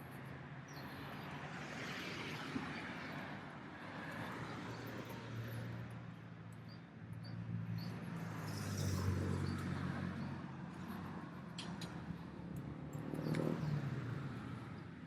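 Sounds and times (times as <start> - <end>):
street background noise: 0.0 - 15.0.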